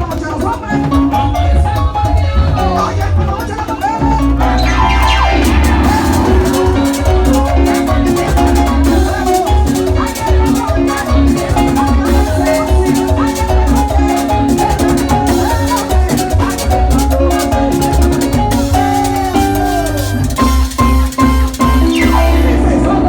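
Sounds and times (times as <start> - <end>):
latin dance music with percussion: 0.0 - 23.0.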